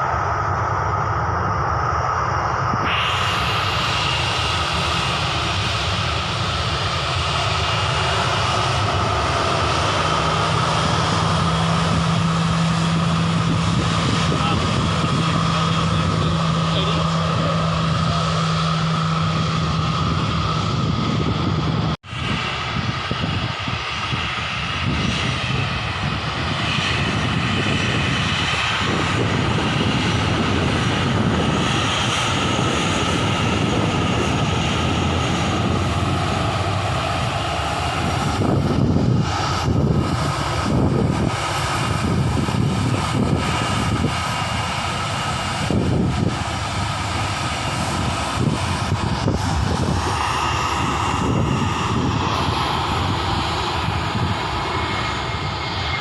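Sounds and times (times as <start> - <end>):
airliner engines whining: 0.0 - 56.0.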